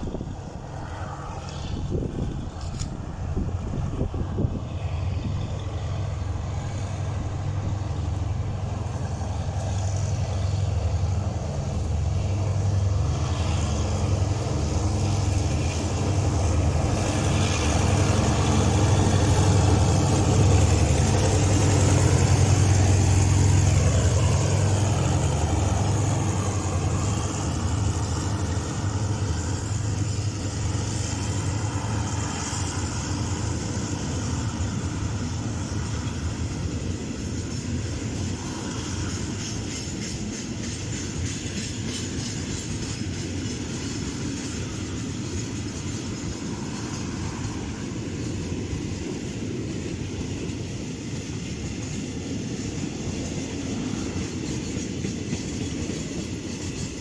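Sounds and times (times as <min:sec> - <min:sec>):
diesel freight train passing: 0:00.0 - 0:57.0.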